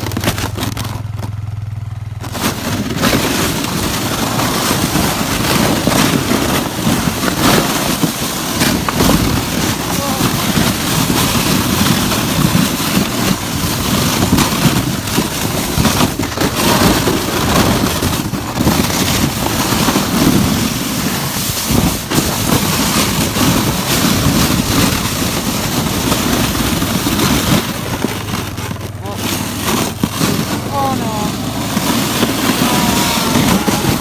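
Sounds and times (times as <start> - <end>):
sled scraping over snow: 0.0 - 34.0.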